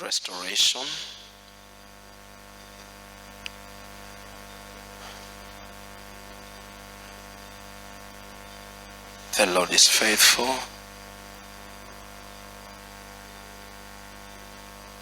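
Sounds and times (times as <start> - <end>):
electrical mains hum: 0.0 - 15.0
faint hiss: 0.0 - 15.0.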